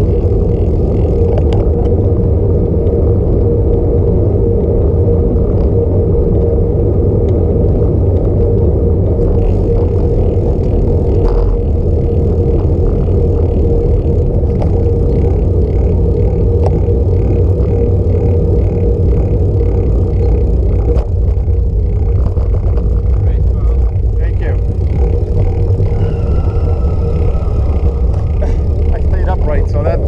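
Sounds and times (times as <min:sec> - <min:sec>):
steady hum: 0:00.0 - 0:30.0
tyres rumbling on pavement: 0:00.0 - 0:30.0
wind buffeting microphone: 0:00.0 - 0:30.0.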